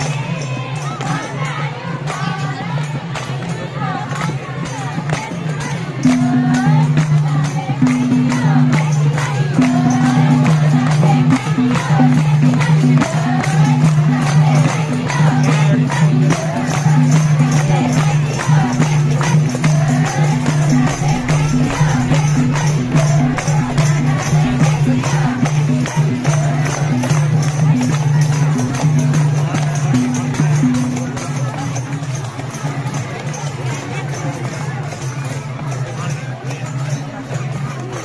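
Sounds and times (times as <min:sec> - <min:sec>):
crowd clapping along: 0:00.0 - 0:31.7
folk song singing over beat: 0:00.0 - 0:38.0.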